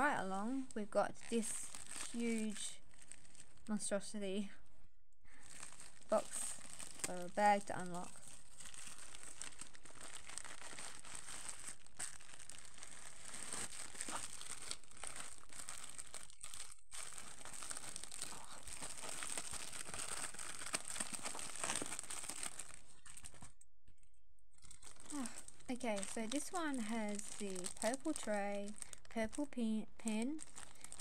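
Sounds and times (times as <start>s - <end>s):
plastic packaging crinkling: 0.0s - 3.8s, 5.3s - 23.6s, 24.6s - 31.0s.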